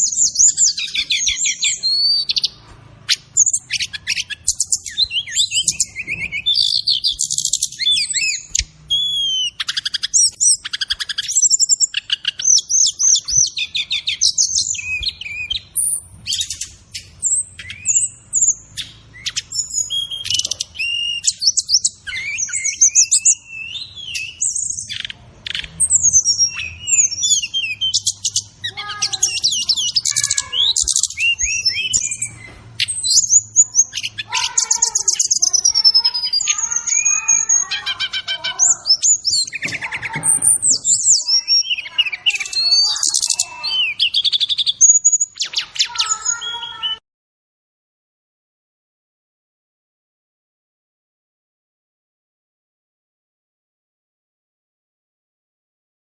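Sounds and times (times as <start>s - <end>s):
bird singing whistles and trills: 0.0s - 47.0s.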